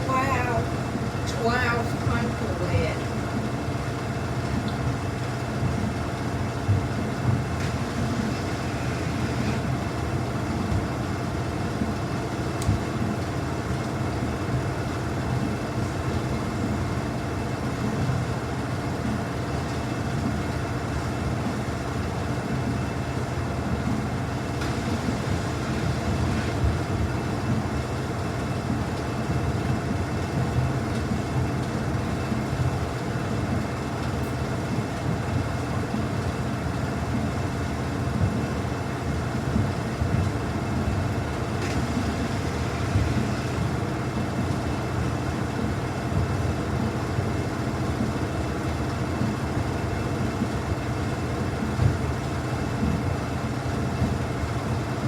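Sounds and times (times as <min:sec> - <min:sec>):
washing machine spin rumble: 0:00.0 - 0:55.0.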